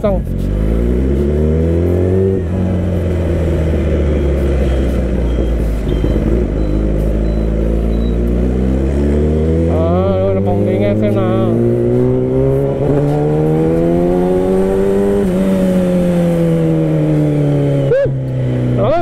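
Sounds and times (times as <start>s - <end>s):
motorcycle engine climbing in pitch: 0.0s - 19.0s.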